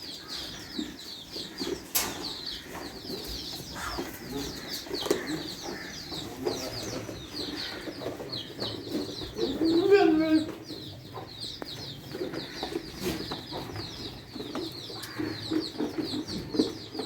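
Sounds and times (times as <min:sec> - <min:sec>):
chickens clucking: 0:00.0 - 0:17.0
small birds chirping: 0:00.0 - 0:17.0.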